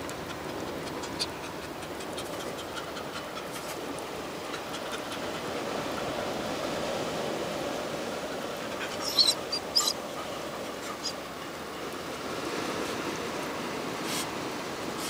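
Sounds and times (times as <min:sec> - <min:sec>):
surf and moving water: 0:00.0 - 0:15.0.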